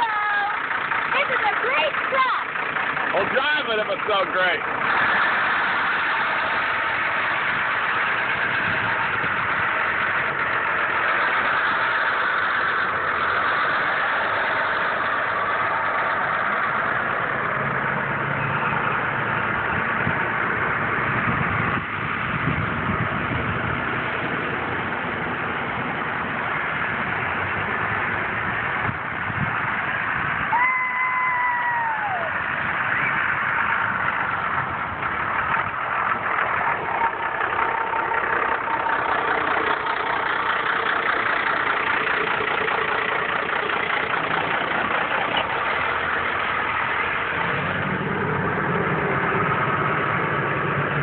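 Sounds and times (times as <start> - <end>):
truck engine idling and driving: 0.0 - 51.0.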